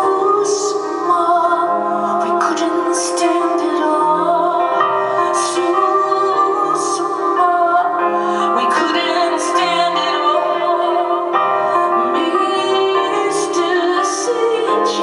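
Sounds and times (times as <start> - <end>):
piano and keyboard: 0.0 - 15.0
woman singing: 0.0 - 15.0.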